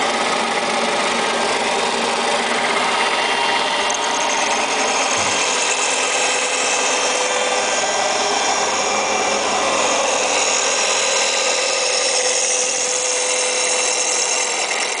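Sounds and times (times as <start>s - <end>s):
grinding wheel hiss and whine: 0.0s - 15.0s.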